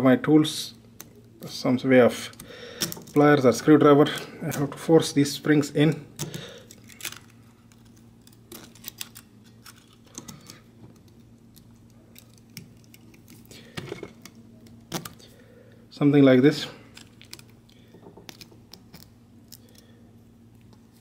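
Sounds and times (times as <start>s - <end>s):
faint steady low hum: 0.0s - 21.0s.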